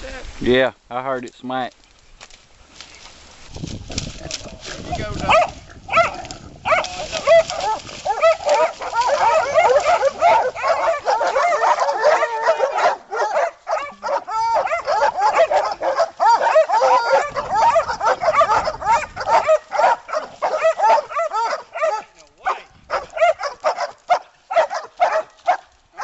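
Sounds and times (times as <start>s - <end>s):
dogs barking and yipping: 4.2s - 26.0s.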